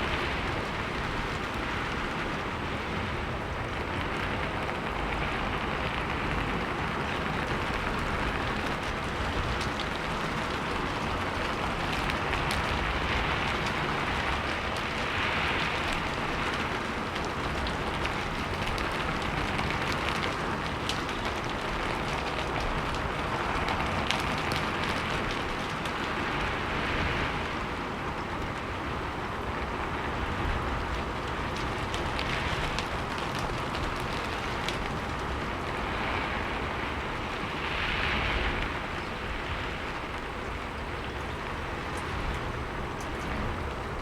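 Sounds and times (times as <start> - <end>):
raindrop ticks: 0.0 - 37.5, 38.6 - 44.0
rain falling: 0.0 - 44.0.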